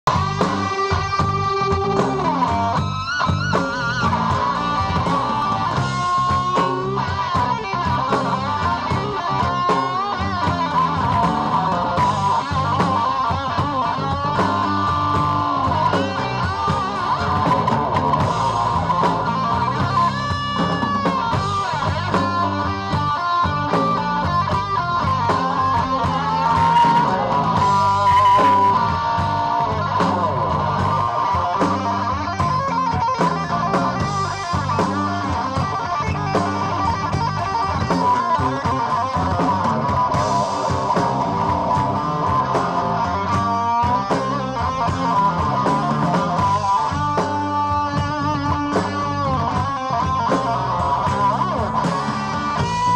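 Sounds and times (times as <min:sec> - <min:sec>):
bass guitar: 0:00.0 - 0:52.9
drums: 0:00.0 - 0:52.9
lead electric guitar with vibrato: 0:00.0 - 0:52.9.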